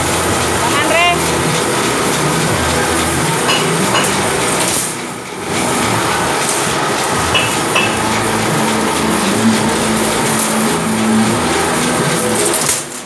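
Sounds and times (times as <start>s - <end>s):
machine mechanical rattle: 0.0s - 13.0s.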